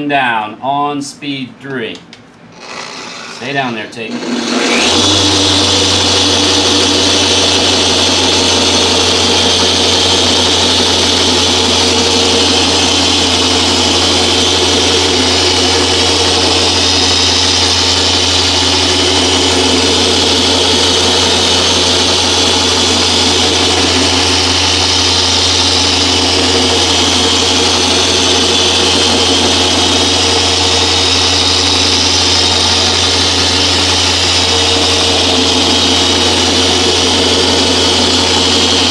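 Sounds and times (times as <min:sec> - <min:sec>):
electric polisher humming: 0:02.5 - 0:38.9.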